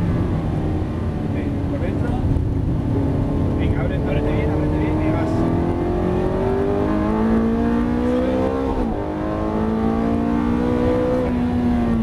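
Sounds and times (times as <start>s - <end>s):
car engine accelerating through gears: 0.0s - 12.0s.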